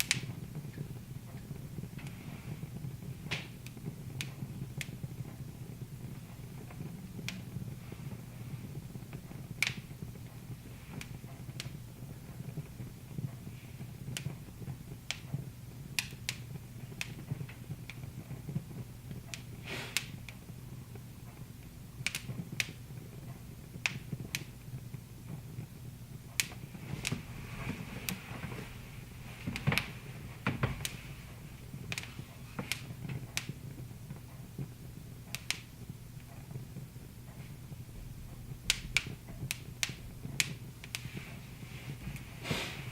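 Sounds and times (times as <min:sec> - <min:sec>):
low steady hum: 0:00.0 - 0:42.9
wood fire crackling: 0:00.0 - 0:42.9.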